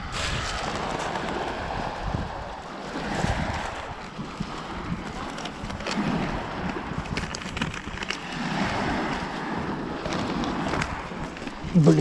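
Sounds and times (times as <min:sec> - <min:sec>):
waves washing onto pebbles: 0:00.0 - 0:12.0
wind on microphone: 0:00.0 - 0:12.0.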